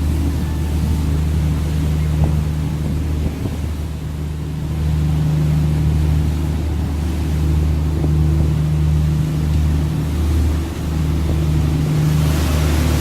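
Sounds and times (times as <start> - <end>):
boat engine humming: 0.0 - 13.0
wind on microphone: 0.0 - 13.0.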